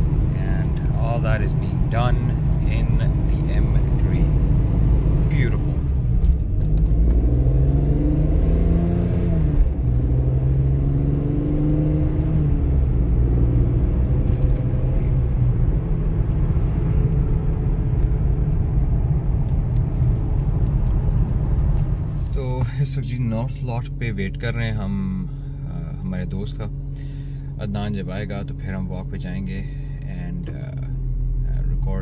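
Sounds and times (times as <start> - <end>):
car engine: 0.0 - 32.0
road rumble: 0.0 - 32.0.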